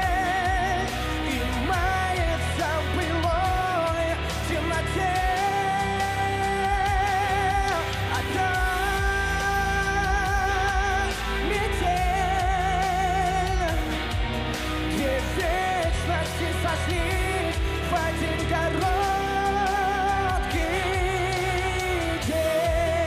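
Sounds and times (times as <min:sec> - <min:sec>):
man singing pop ballad: 0:00.0 - 0:23.0
pop backing music with beat: 0:00.0 - 0:23.0.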